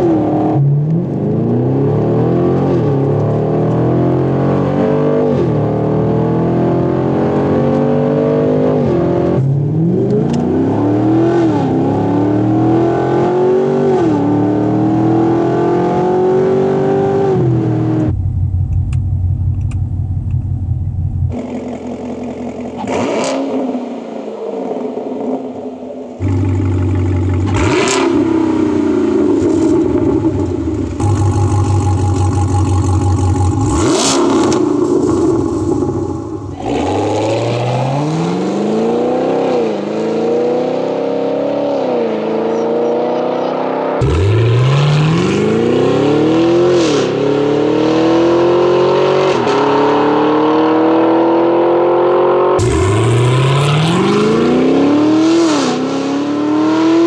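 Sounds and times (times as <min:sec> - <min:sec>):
car engine accelerating: 0:00.0 - 0:24.0, 0:24.6 - 0:57.0
car engine idling and revving: 0:00.0 - 0:57.0.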